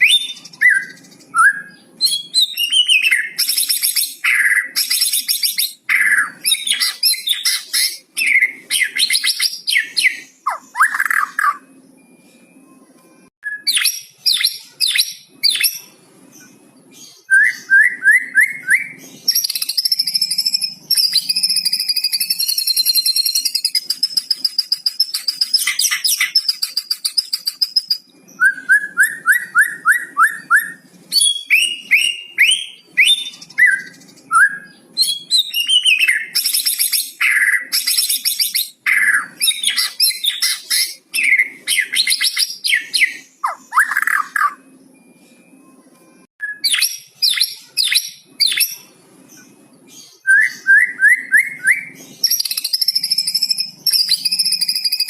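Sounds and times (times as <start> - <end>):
songbird singing varied song: 0.0 - 12.1, 13.4 - 44.8, 46.4 - 55.0.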